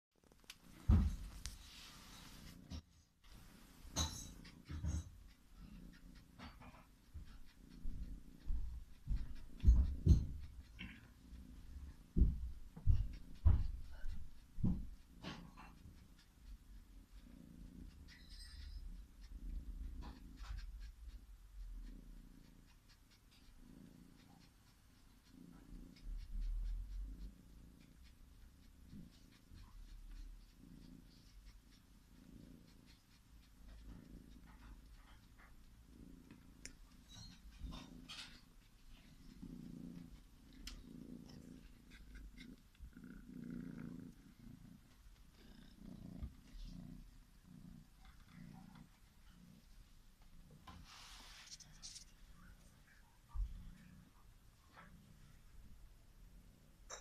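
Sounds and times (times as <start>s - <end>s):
cat purring: 0.2s - 57.0s.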